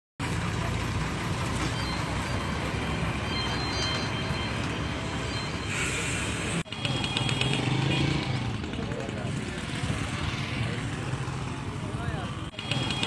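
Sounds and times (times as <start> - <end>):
rushing traffic noise: 0.2 - 13.0
traffic engine hum: 0.2 - 13.0.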